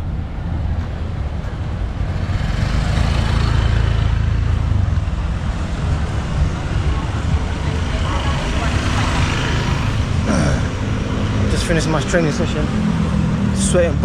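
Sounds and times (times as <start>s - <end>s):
vehicle engine rumble passing: 0.0s - 14.0s.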